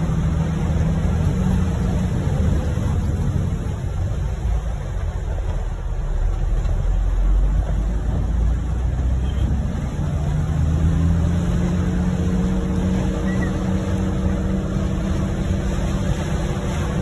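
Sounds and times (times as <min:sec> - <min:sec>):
engine and tyres on wet road: 0:00.0 - 0:17.0
engine hum: 0:00.0 - 0:17.0
rain hiss and spray: 0:00.0 - 0:17.0.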